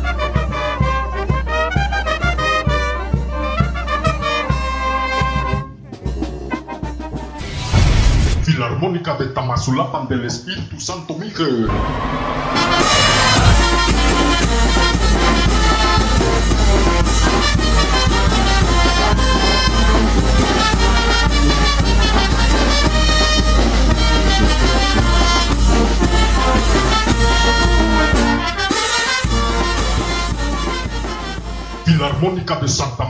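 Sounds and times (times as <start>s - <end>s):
brass band playing: 0.0s - 7.6s, 11.7s - 32.2s.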